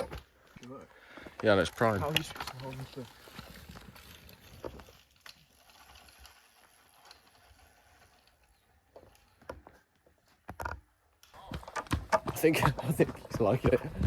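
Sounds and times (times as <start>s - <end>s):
mini bike clicks and rattles: 0.0s - 14.0s.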